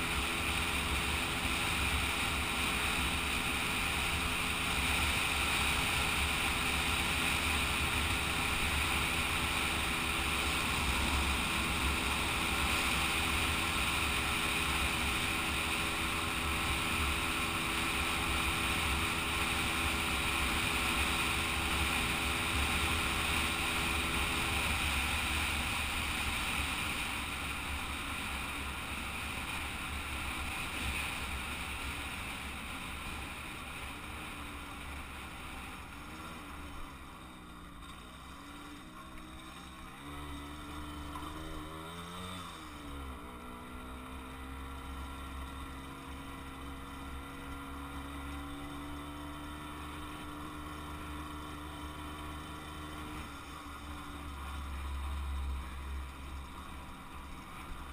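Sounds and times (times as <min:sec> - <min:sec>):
moped engine running: 0:00.0 - 0:57.9.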